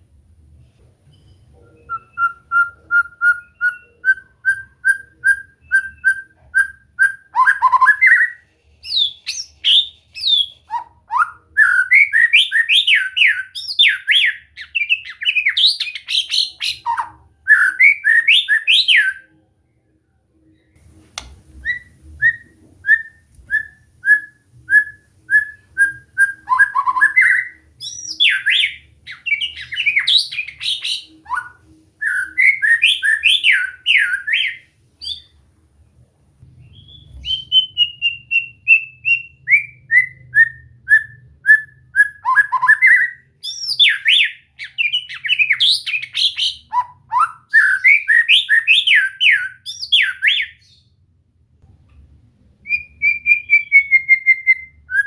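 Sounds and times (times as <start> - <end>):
bird singing whistled phrases: 1.8 - 19.2, 21.6 - 35.3, 36.6 - 50.8, 52.6 - 55.0.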